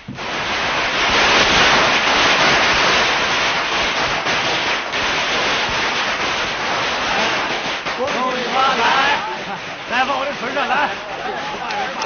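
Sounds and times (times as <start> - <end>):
firecrackers crackling: 0.0 - 12.0
sharp firecracker bangs: 0.0 - 12.0.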